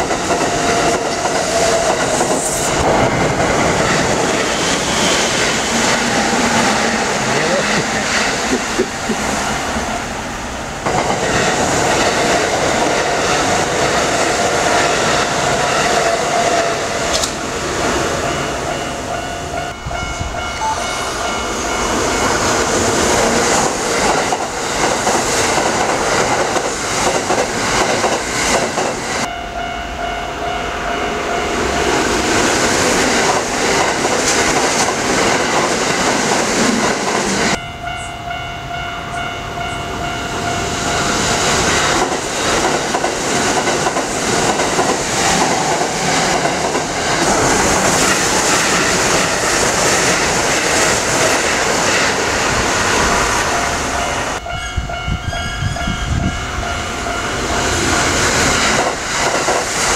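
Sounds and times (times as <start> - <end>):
train wheels clacking on rails: 0.0 - 9.4, 10.8 - 17.6, 18.2 - 29.4, 31.8 - 38.0, 38.7 - 59.9
train whining tone: 0.0 - 59.9.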